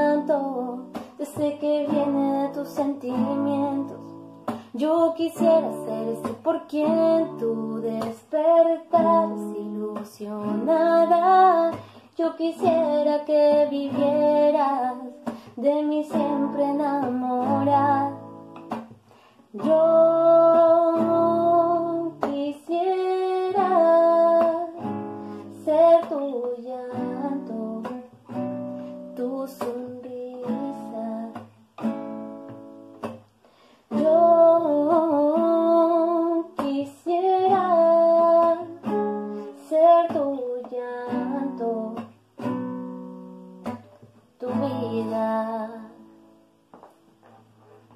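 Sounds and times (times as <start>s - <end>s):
classical guitar playing: 0.0s - 19.0s, 19.6s - 47.9s.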